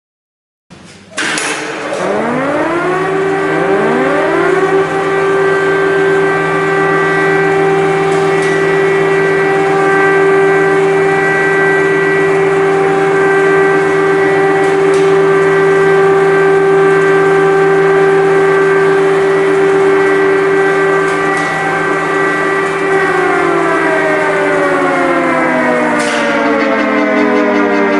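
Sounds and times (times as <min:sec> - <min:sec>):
air-raid sirens winding up: 0:01.1 - 0:27.9.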